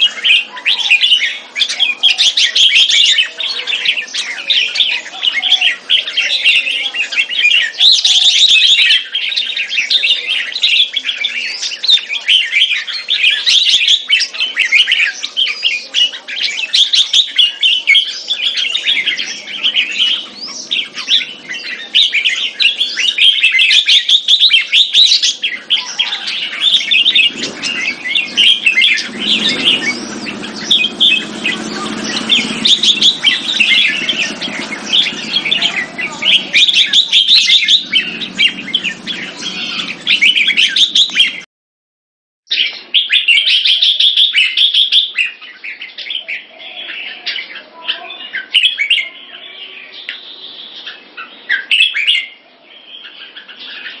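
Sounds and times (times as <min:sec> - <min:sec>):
birds rapid chattering calls: 0:00.0 - 0:41.5, 0:42.5 - 0:54.0.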